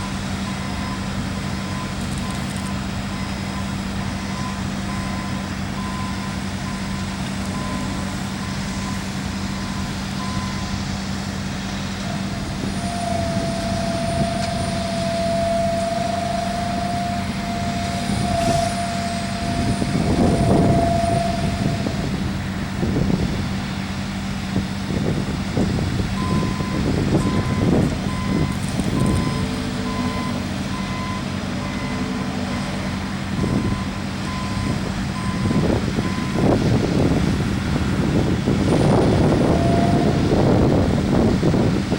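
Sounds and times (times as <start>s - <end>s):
long steady tone: 0.0s - 24.6s, 26.2s - 41.7s
heavy diesel equipment droning: 0.0s - 41.9s
truck reversing beeper: 0.0s - 41.9s.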